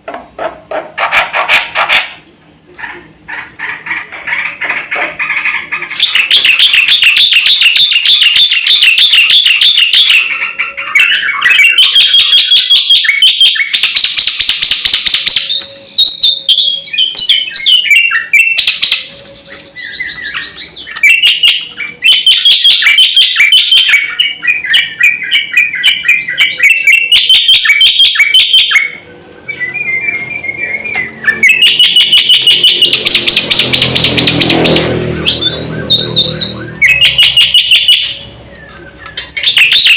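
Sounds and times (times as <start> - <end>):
bird singing trills and whistles: 4.0 - 39.9.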